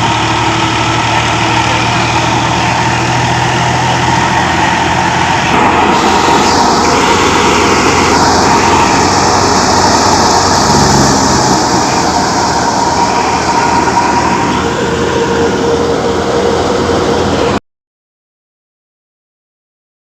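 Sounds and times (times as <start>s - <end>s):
tractor engine running loudly: 0.0s - 17.6s.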